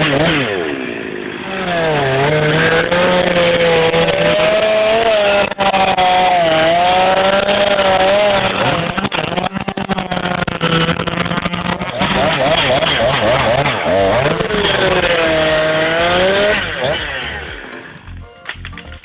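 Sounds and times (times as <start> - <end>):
chainsaw running at high revs: 0.0 - 17.9
sharp crack: 0.0 - 19.0.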